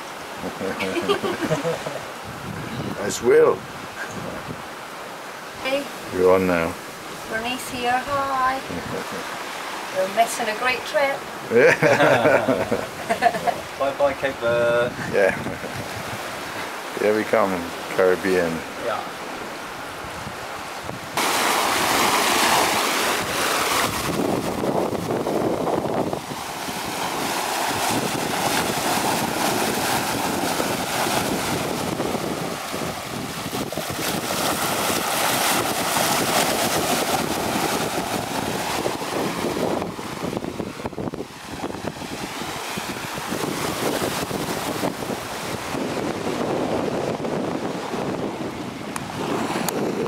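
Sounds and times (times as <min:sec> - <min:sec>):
water rushing along hull: 0:00.0 - 0:50.0
wind buffeting microphone: 0:00.3 - 0:04.8, 0:05.5 - 0:09.3, 0:10.8 - 0:50.0.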